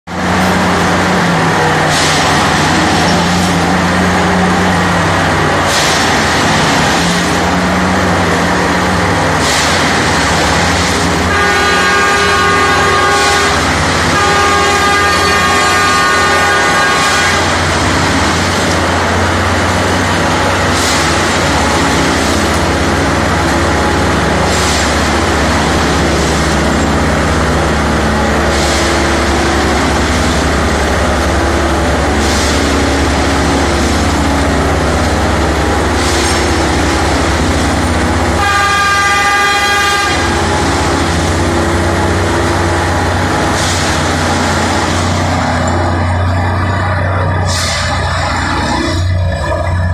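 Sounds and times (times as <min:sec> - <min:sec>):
track machine diesel engine drone: 0:00.0 - 0:49.9
horn blast: 0:00.1 - 0:49.8.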